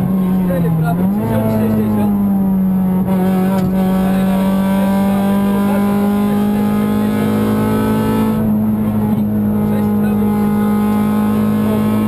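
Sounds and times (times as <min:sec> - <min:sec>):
car engine running hard: 0:00.0 - 0:12.0
road and tyre noise: 0:00.0 - 0:12.0.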